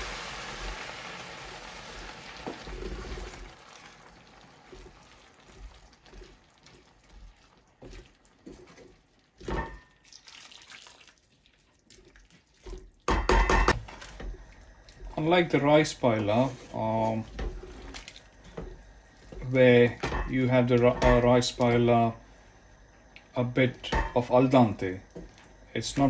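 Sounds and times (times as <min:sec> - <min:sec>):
wooden spoon stirring a pan: 0:00.0 - 0:10.3, 0:11.2 - 0:22.2, 0:23.0 - 0:26.0.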